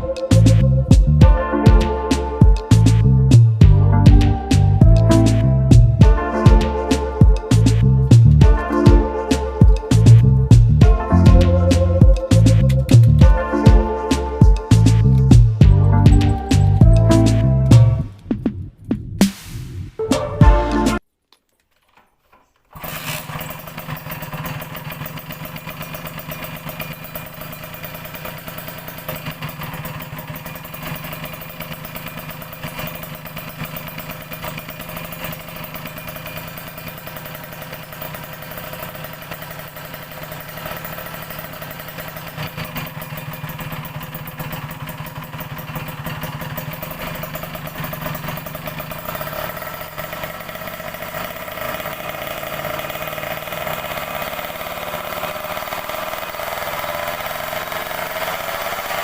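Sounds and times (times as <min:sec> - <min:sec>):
two-stroke engine idling: 0:00.0 - 0:18.3, 0:22.7 - 0:59.0.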